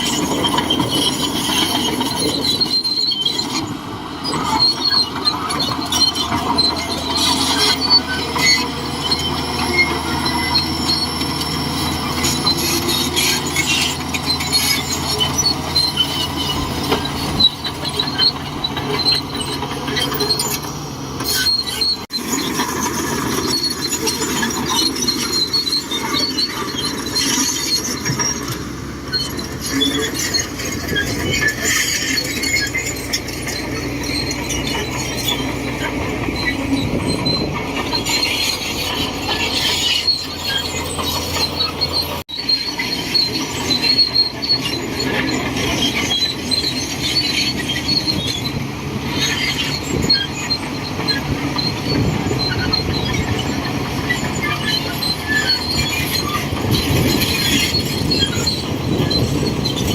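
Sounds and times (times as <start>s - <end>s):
diesel engine running: 0.0s - 59.9s
steel tracks squealing and clinking: 0.0s - 59.9s.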